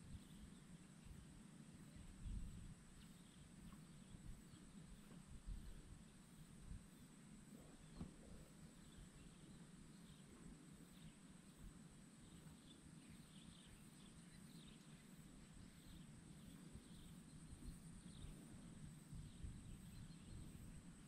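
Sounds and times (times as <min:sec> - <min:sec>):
soft chirps: 0:00.0 - 0:21.0.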